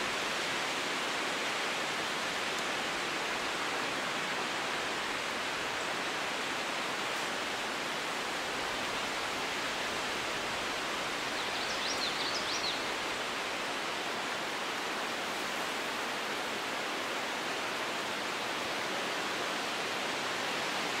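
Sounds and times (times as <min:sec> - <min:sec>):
wind through tree leaves: 0:00.0 - 0:21.0.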